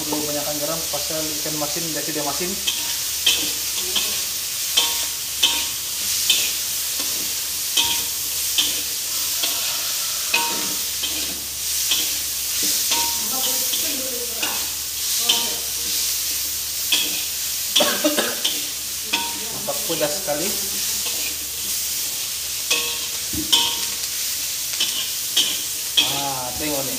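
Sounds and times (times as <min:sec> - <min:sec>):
food sizzling in oil: 0:00.0 - 0:26.9
spatula scraping a wok: 0:02.6 - 0:26.9.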